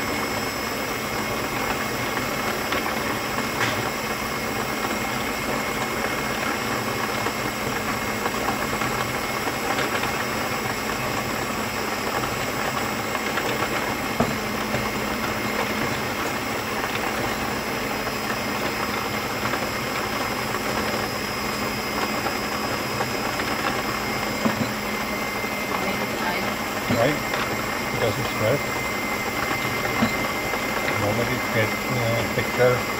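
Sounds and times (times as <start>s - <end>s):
stand mixer motor humming: 0.0s - 32.9s.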